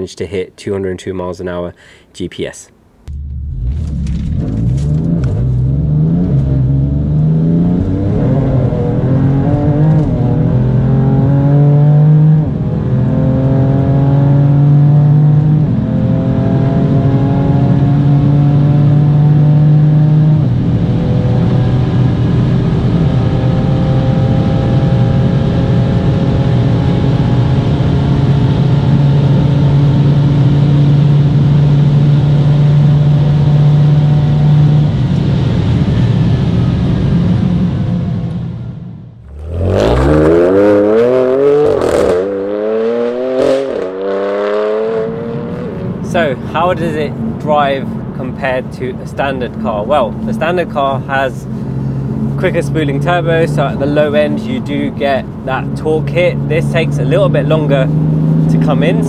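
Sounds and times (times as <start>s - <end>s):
car engine at full throttle: 3.0s - 59.0s
quick gear upshifts: 3.1s - 35.3s, 39.2s - 59.0s.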